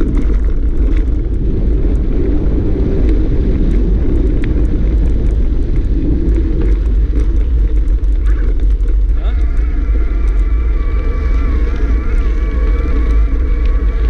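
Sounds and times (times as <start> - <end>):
bike clicks and rattles: 0.0 - 14.0
tyres rolling on dirt: 0.0 - 14.0
wind on microphone: 0.0 - 14.0.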